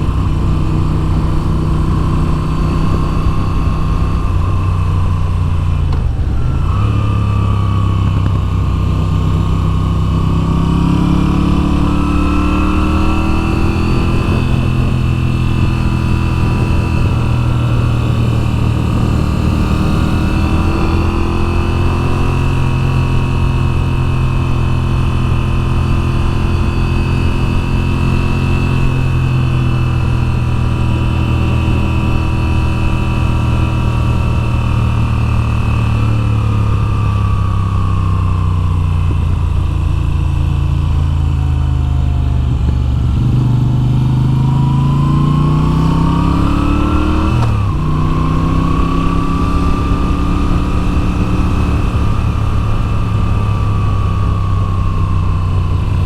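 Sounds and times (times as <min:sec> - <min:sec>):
motorcycle engine under load: 0:00.0 - 0:56.0.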